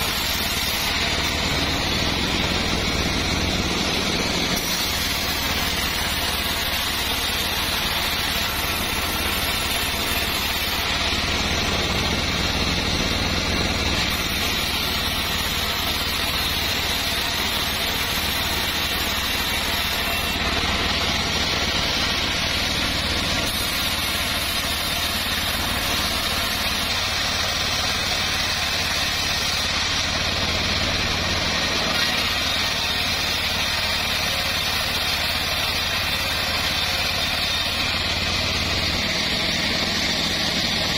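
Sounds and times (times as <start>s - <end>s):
saw blade hissing through board: 0.0s - 40.9s.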